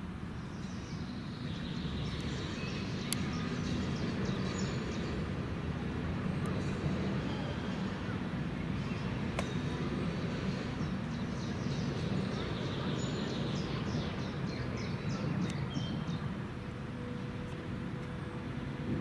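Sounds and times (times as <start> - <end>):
low outdoor rumble: 0.0 - 19.0
songbird chirping: 0.3 - 5.6, 6.2 - 18.2.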